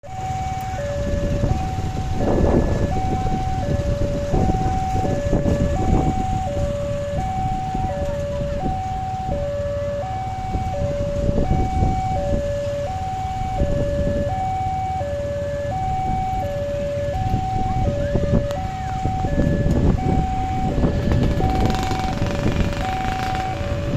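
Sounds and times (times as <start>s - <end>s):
road traffic rumble: 0.0s - 23.9s
level crossing two-tone alarm: 0.1s - 23.9s.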